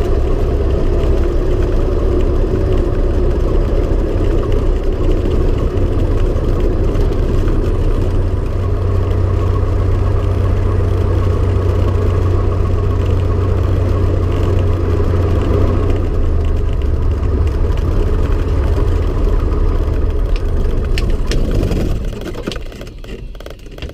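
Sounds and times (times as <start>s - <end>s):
aircraft engine drone: 0.0s - 23.9s.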